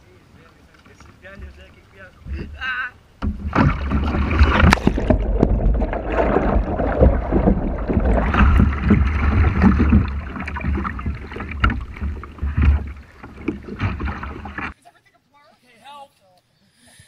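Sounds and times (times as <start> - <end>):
kayak splash: 0.0 - 14.8
churning bubbling water: 0.9 - 14.8.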